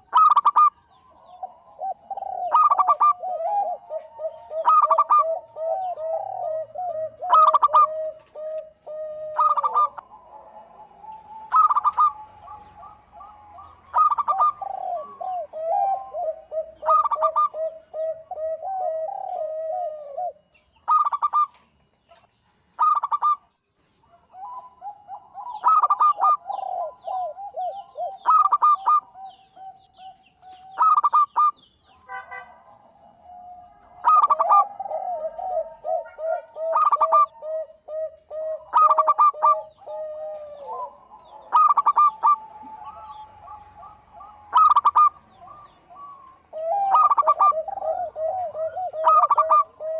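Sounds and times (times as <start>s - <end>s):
dove rolling coo: 0.0s - 21.6s, 22.8s - 23.5s, 24.1s - 49.9s.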